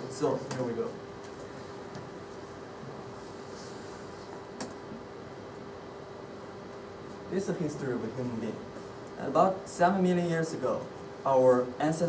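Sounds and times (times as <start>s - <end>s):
faint constant hum: 0.0s - 12.0s.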